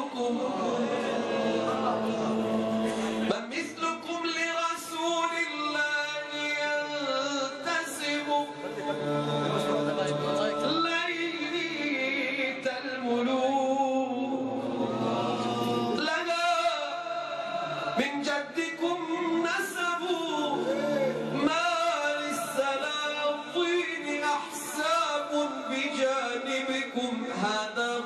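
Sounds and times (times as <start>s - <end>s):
man singing vocal improvisation: 0.0s - 28.0s.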